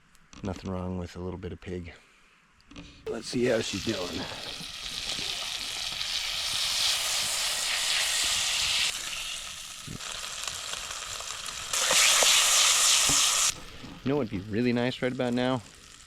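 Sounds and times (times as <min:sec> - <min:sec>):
meat sizzling over fire: 0:03.1 - 0:16.0.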